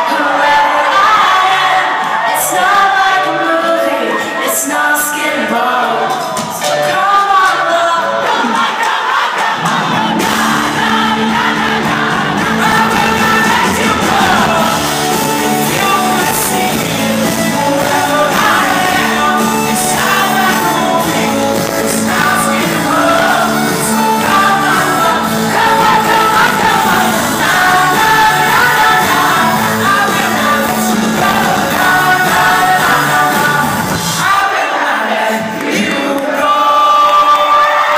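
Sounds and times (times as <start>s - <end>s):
crowd noise and voices: 0.0s - 37.9s
lead vocals: 0.0s - 37.9s
live pop-rock band: 0.0s - 37.9s.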